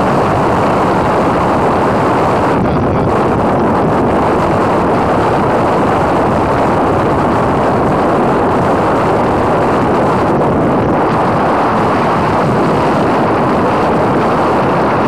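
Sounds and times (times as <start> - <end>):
road noise: 0.0 - 15.0
wind rush: 0.0 - 15.0.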